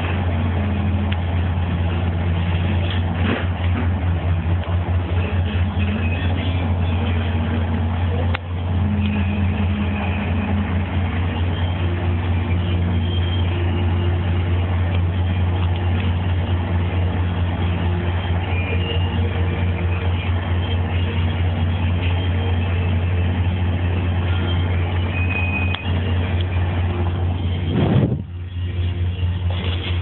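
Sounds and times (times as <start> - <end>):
boat engines droning: 0.0 - 30.0.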